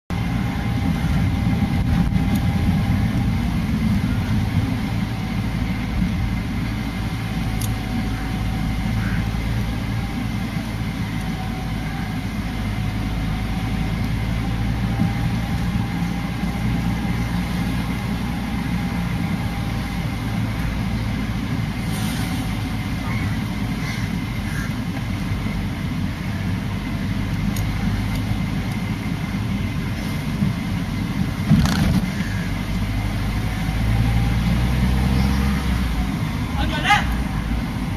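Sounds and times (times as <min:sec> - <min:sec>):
road noise: 0:00.0 - 0:37.9
vehicle engine droning: 0:00.1 - 0:37.9.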